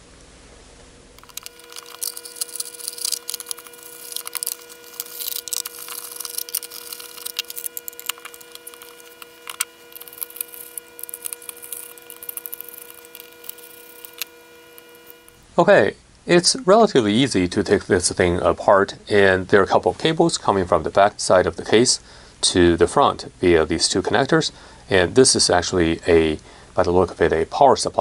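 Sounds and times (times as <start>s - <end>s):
faint steady whine: 0.0s - 28.0s.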